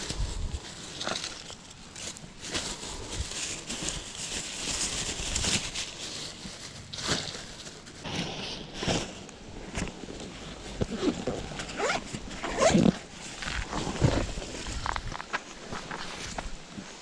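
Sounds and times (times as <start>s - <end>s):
plastic bag crinkling: 0.6s - 15.1s.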